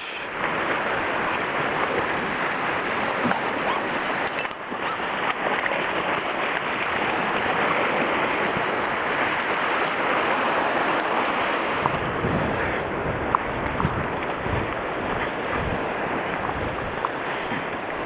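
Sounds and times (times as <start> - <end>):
sea surf on rocks: 0.0 - 18.0
wind buffeting microphone: 0.3 - 18.0.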